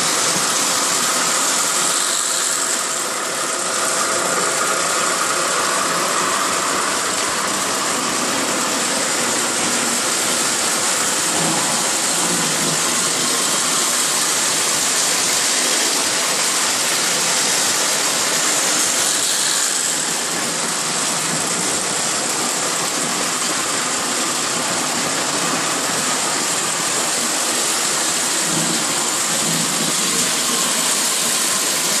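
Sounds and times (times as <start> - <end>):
locomotive motors humming: 0.0 - 32.0
metal wheels rolling on rails: 0.0 - 32.0.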